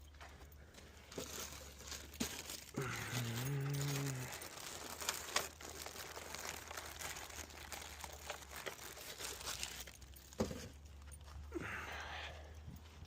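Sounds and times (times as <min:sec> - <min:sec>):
rustling of things handled: 0:00.0 - 0:13.0.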